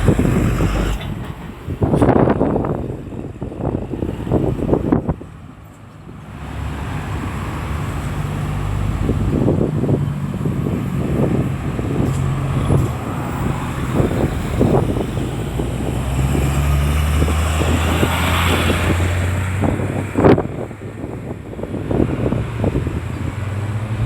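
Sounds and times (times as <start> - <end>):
heavy vehicle engine: 0.0 - 24.0
road traffic passing: 0.0 - 24.0.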